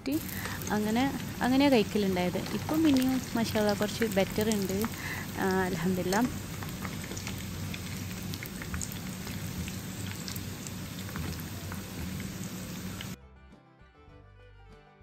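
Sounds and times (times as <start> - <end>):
chicken deep-frying in oil: 0.0 - 13.2.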